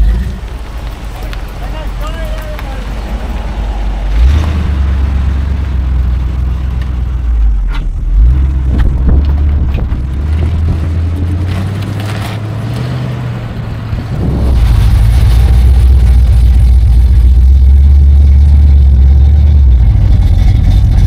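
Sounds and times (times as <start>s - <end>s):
car engines rumbling: 0.0s - 21.0s.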